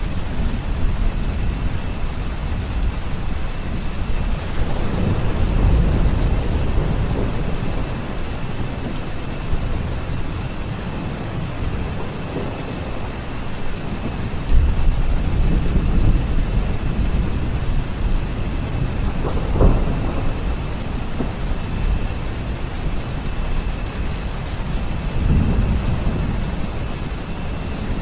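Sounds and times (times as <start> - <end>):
heavy rain: 0.0 - 28.0
low rolling thunder: 0.0 - 28.0.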